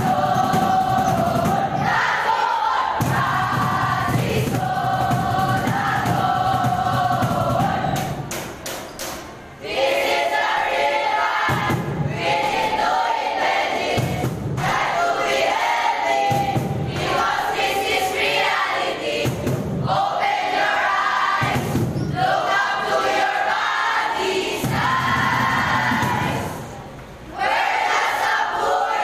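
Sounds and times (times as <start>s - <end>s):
children singing a jingle in unison: 0.0s - 8.4s, 9.6s - 29.0s.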